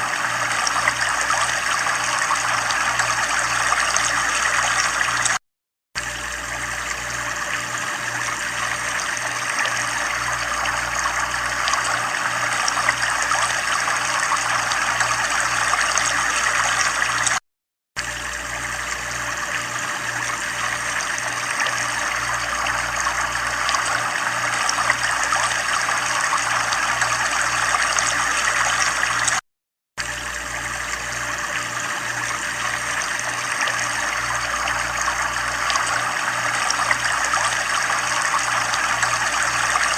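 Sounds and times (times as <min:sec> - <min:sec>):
water trickling and splashing: 0:00.0 - 0:05.4, 0:06.0 - 0:17.4, 0:18.0 - 0:29.4, 0:30.0 - 0:39.9
low pulsing hum: 0:06.0 - 0:17.4, 0:18.0 - 0:29.4, 0:30.0 - 0:39.9.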